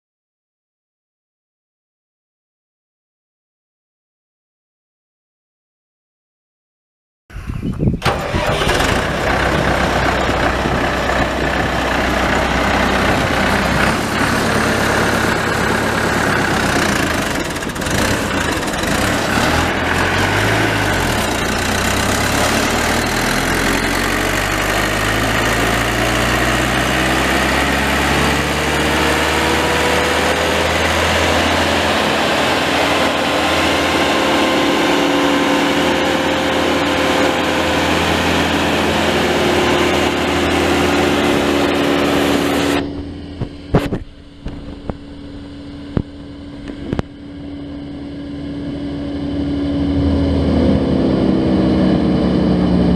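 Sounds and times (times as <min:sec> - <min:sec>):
wood chipper diesel engine: 0:07.4 - 0:52.9.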